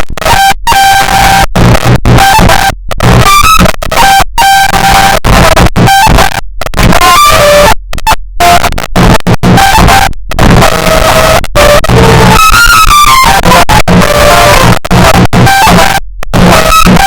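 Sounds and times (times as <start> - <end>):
heavily distorted music: 0.0 - 17.0.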